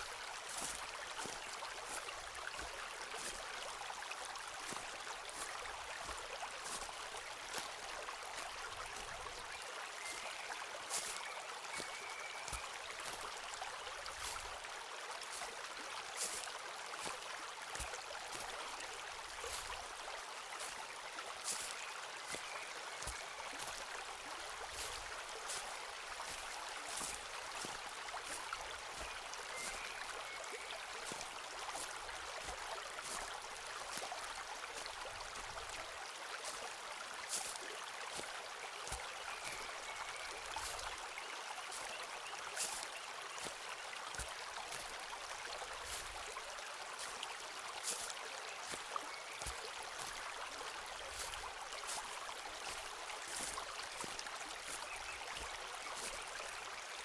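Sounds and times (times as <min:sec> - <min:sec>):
footsteps on woodland path: 0:00.0 - 0:09.4, 0:10.0 - 0:56.7
forest stream rushing: 0:00.0 - 0:57.0.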